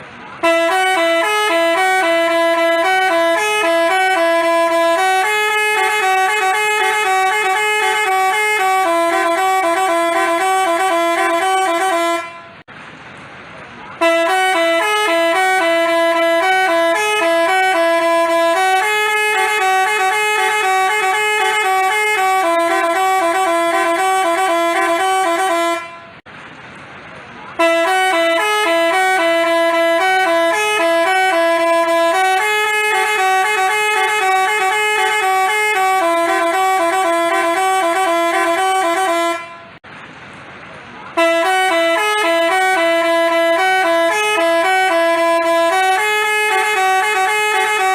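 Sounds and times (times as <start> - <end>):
multi-tone bus horn melody: 0.0 - 12.7, 13.9 - 26.3, 27.5 - 39.8, 41.1 - 47.9.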